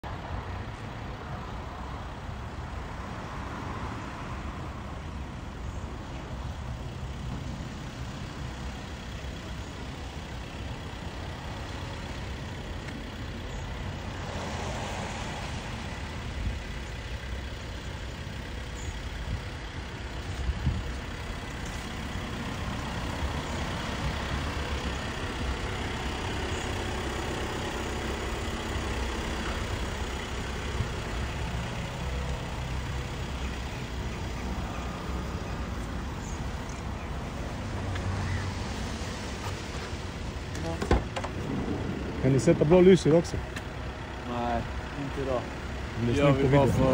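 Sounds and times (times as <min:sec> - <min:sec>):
traffic rumble: 0:00.0 - 0:46.9
engine running: 0:00.1 - 0:46.9.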